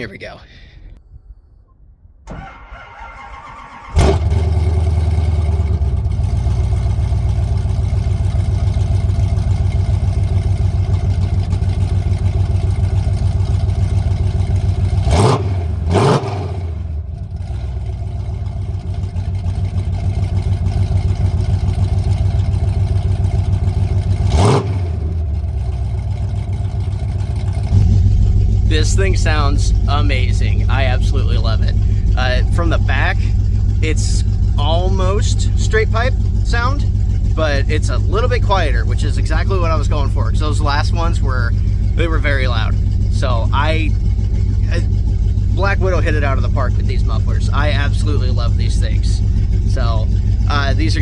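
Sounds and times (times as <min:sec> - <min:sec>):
car engine starting and idling: 0:00.0 - 0:51.0
engine throttle blips: 0:00.0 - 0:51.0.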